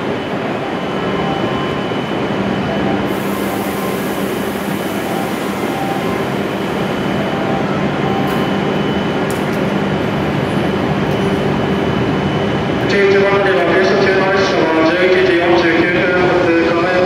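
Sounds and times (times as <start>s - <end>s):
train hum and hiss: 0.0s - 17.0s.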